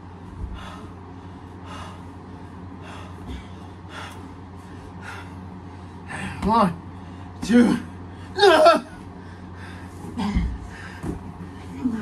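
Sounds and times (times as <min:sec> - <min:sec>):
steady low hum: 0:00.0 - 0:12.0
man breathing hard: 0:00.4 - 0:08.4, 0:09.0 - 0:11.8.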